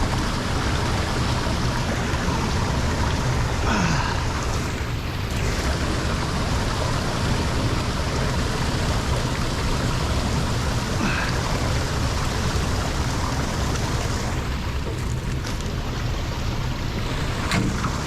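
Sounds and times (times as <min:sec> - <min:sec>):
water pouring into a drain: 0:00.0 - 0:18.0.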